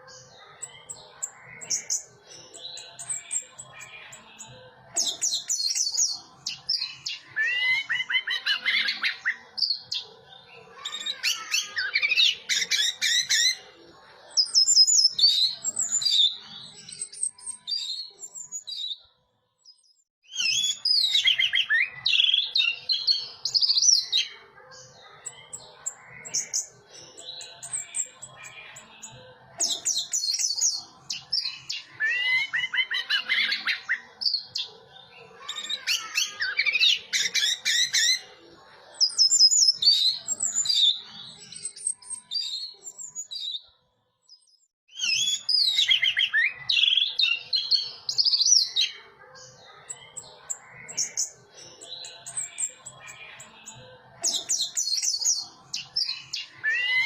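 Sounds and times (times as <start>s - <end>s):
bird singing high twittering song: 0.0s - 57.0s.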